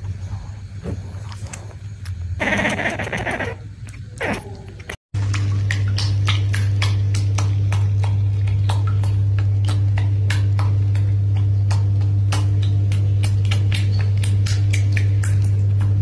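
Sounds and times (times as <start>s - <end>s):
bathtub pump humming: 0.0s - 16.0s.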